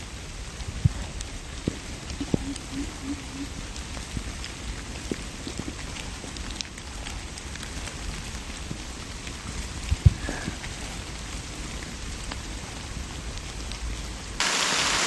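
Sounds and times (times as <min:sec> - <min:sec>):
light rain patter: 0:00.0 - 0:15.0.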